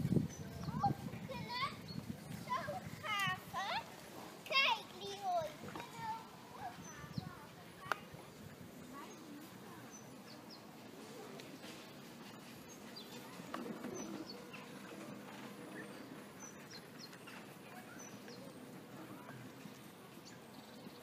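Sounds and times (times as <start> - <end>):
small birds chirping: 0.0 - 4.0, 4.8 - 21.0
outdoor background noise: 0.0 - 21.0
rustle: 0.0 - 21.0.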